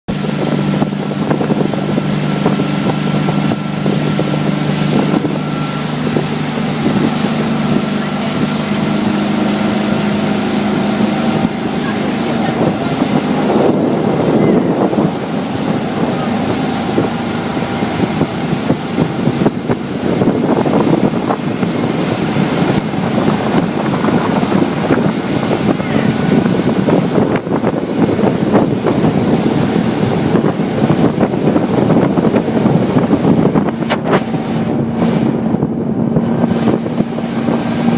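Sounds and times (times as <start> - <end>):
motorboat engine hum: 0.1 - 37.9
water rushing past hull: 0.1 - 37.9
wind buffeting microphone: 0.1 - 37.9.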